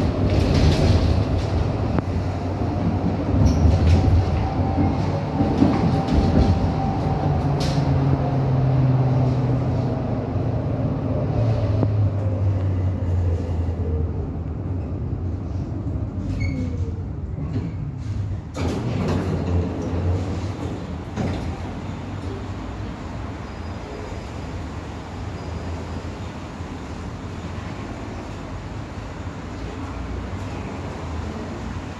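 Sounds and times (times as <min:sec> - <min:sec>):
tram wheels rumbling on rails: 0:00.0 - 0:31.9.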